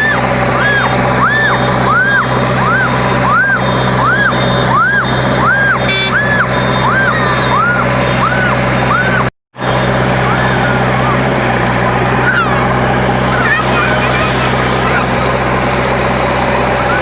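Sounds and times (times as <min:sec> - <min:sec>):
low engine hum: 0:00.0 - 0:17.0
rising and falling electronic tone: 0:00.0 - 0:17.0.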